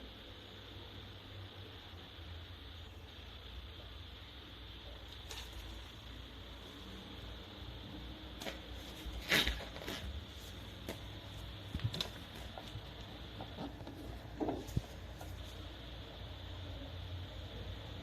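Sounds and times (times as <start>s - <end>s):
faint steady hum and hiss: 0.0s - 18.0s.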